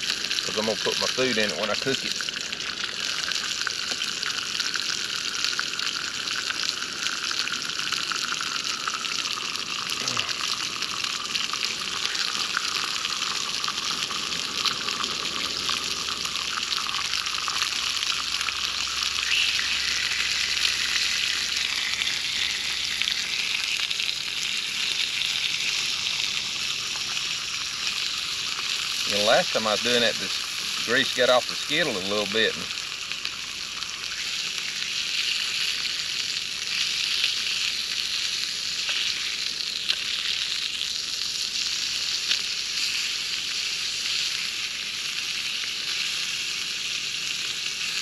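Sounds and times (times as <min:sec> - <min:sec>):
grease sizzling in a skillet: 0:00.0 - 0:48.0.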